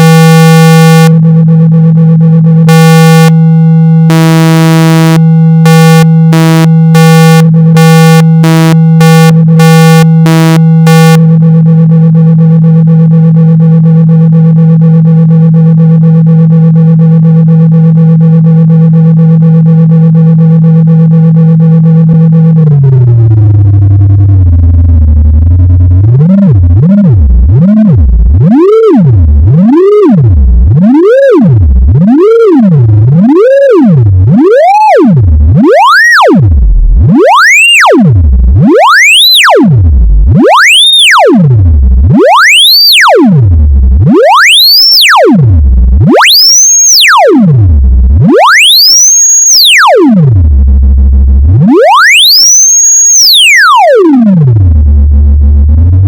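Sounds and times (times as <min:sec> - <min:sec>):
sine tone sweeping in pitch: 0:00.0 - 0:56.0.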